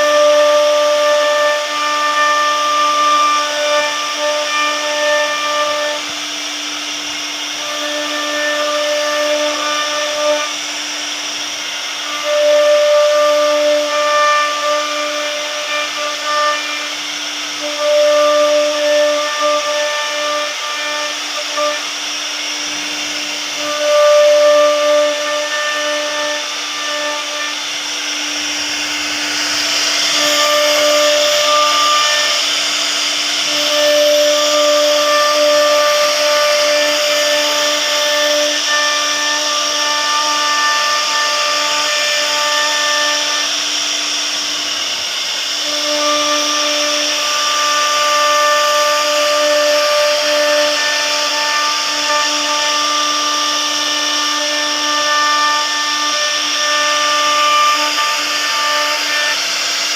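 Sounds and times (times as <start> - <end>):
router bit cutting wood: 0.0 - 59.9
router spindle whine: 0.0 - 59.9.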